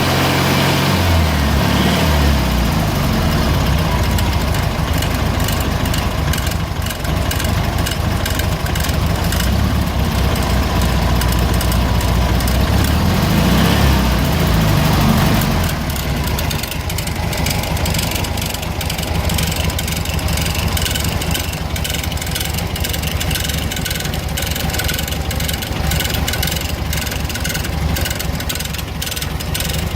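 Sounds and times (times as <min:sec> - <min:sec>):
car engine idling: 0:00.0 - 0:29.9
metallic engine noise: 0:02.2 - 0:29.9.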